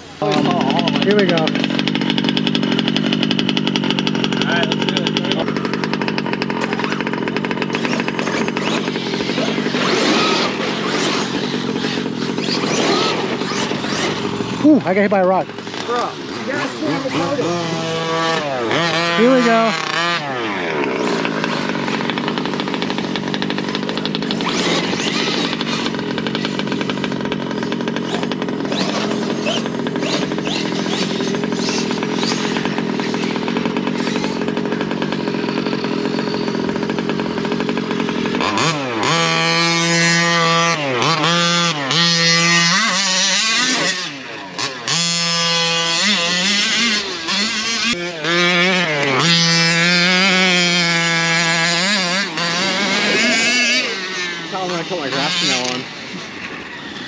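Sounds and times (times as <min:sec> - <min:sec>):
electric motor whine: 0:00.0 - 0:57.0
rc truck motor and tyres: 0:00.0 - 0:57.0.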